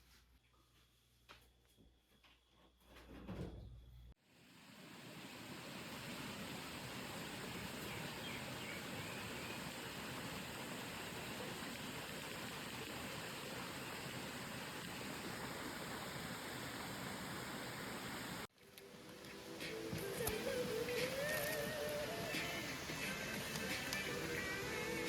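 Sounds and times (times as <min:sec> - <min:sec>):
stream rushing: 0:04.3 - 0:25.0.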